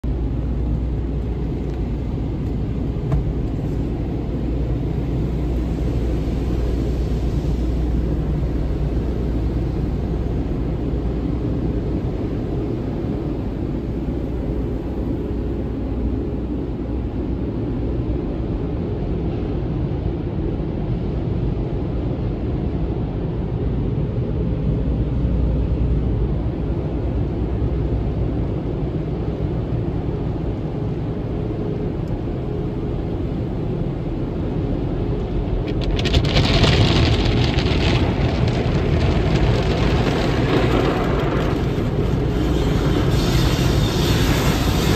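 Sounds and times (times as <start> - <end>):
car wash water jets: 0.1 - 44.9.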